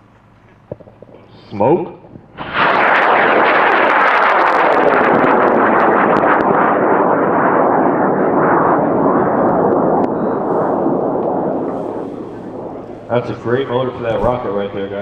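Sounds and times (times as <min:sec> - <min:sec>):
rocket motor roaring: 0:00.6 - 0:15.0.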